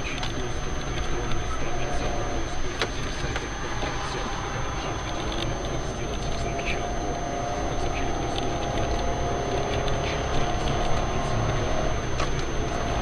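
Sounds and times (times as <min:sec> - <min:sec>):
car road and engine rumble: 0:00.0 - 0:13.0
faint even hum: 0:00.0 - 0:13.0.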